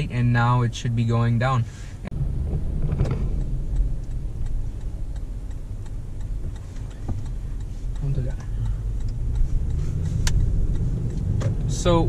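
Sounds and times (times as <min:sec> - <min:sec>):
car engine and road rumble: 0:00.0 - 0:12.0
faint ticking: 0:00.0 - 0:12.0.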